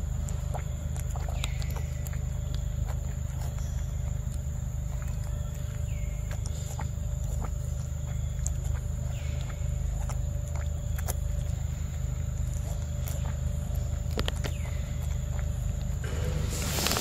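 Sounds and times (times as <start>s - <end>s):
monkey drinking with sucking clicks: 0.0s - 17.0s
steady low rumble: 0.0s - 17.0s.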